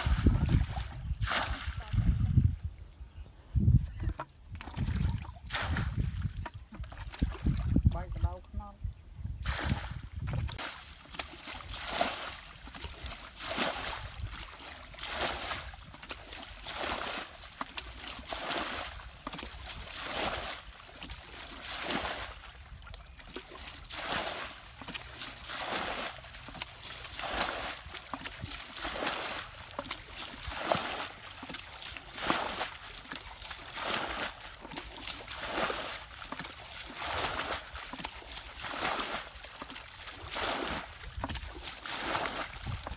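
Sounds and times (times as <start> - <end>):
water scooped and splashed: 0.0 - 2.4, 4.6 - 7.9, 9.4 - 42.9.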